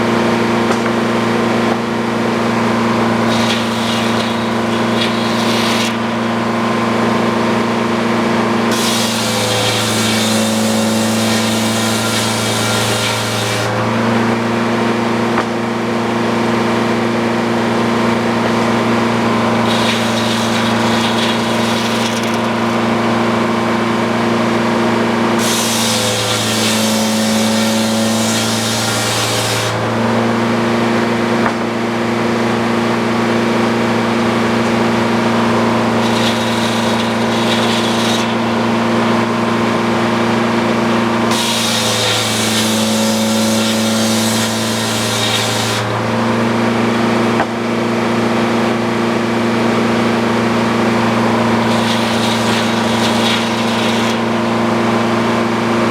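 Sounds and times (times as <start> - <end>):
circular saw cutting log: 0.0 - 15.1, 16.4 - 55.9
sawmill engine running: 0.0 - 55.9.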